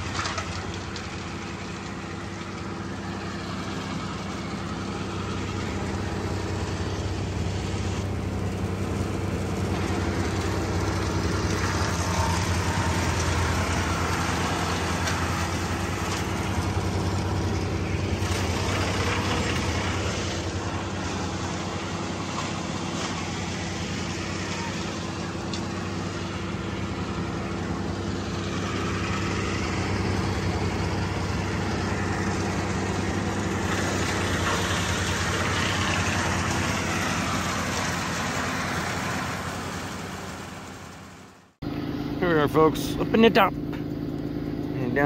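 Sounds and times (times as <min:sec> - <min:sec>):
large engine running: 0:00.0 - 0:45.0.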